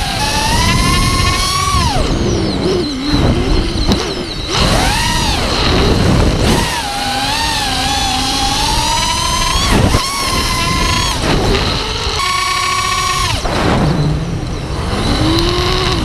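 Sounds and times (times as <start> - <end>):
drone motors whining: 0.0 - 16.0
wind noise on microphone: 0.0 - 16.0.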